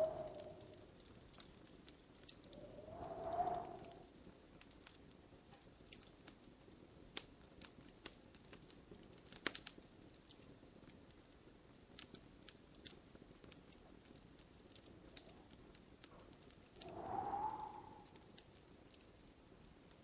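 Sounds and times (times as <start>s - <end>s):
faint low hiss: 0.0s - 20.0s
fire pops and snaps: 0.0s - 20.0s.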